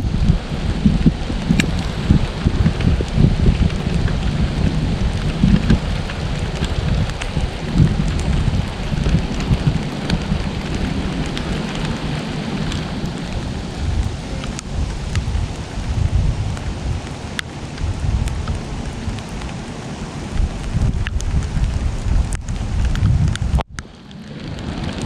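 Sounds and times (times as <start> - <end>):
low uneven rumble: 0.0 - 25.0
raindrops ticking close by: 0.0 - 25.0
steady rain falling: 0.0 - 25.0.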